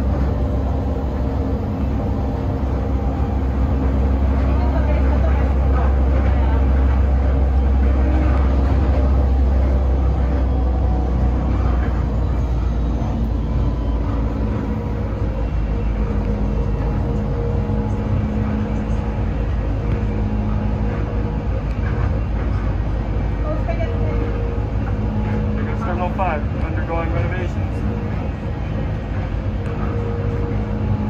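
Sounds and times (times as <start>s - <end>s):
train low rumble: 0.0s - 31.0s.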